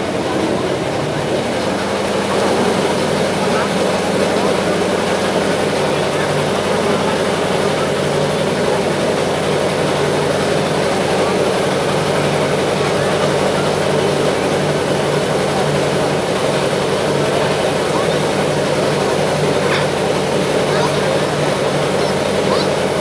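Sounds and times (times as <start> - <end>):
engine drone: 0.0 - 23.0
faint crowd chatter: 0.0 - 23.0.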